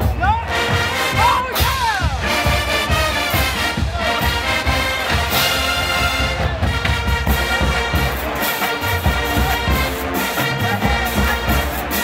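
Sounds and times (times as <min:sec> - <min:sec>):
marching band brass tune: 0:00.0 - 0:12.0
steady drum beat: 0:00.0 - 0:12.0.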